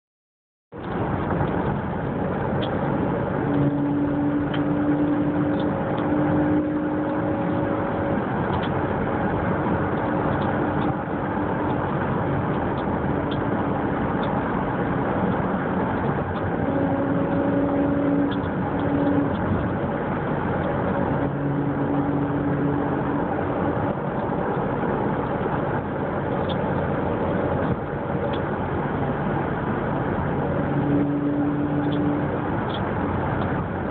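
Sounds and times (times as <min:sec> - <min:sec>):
car engine running: 0:00.8 - 0:33.9
low hum: 0:00.8 - 0:33.9.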